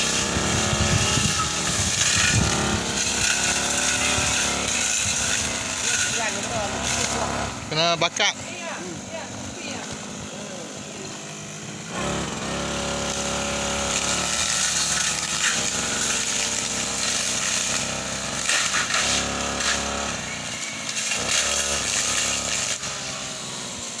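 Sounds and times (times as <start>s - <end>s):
brush cutter engine revving: 0.0s - 24.0s.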